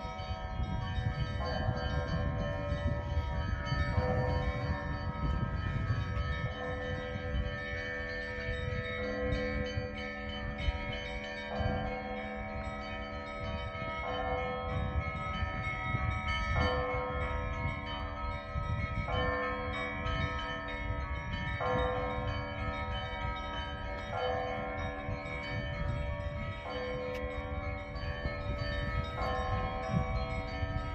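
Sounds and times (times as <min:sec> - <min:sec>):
church bells ringing: 0:00.0 - 0:30.9.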